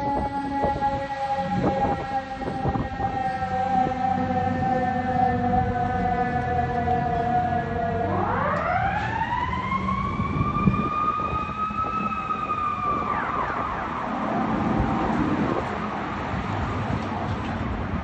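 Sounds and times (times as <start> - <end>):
fire siren wailing: 0.0 - 17.1
street traffic: 0.0 - 18.0.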